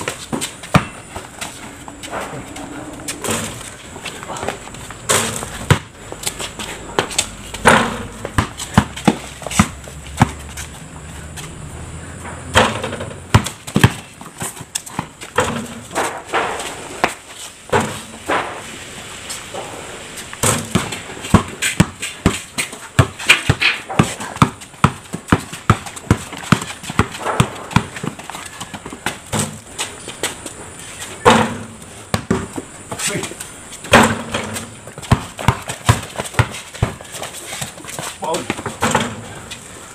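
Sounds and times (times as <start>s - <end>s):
basketball bouncing on concrete: 0.0s - 11.7s, 12.4s - 18.6s, 20.4s - 30.5s, 31.2s - 39.6s.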